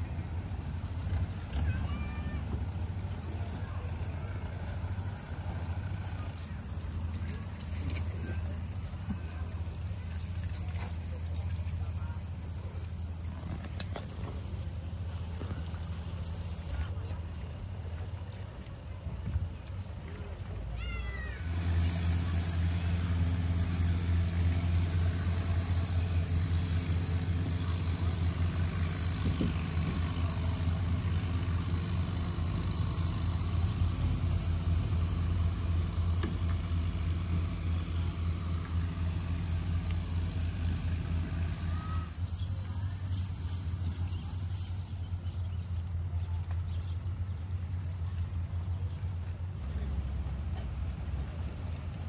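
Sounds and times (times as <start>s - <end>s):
boat engine running: 0.0s - 52.0s
high insect buzz: 0.0s - 52.0s.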